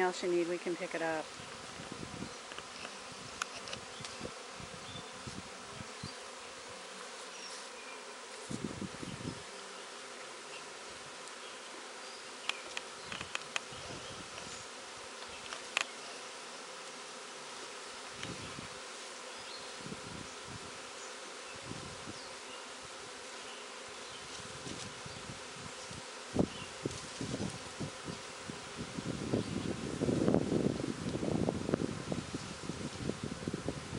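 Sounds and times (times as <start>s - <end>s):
bee swarm buzzing: 0.0s - 33.9s.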